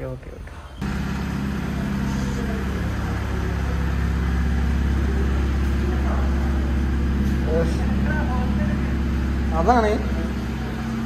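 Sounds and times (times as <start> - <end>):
car engine idling: 0.8 - 11.0.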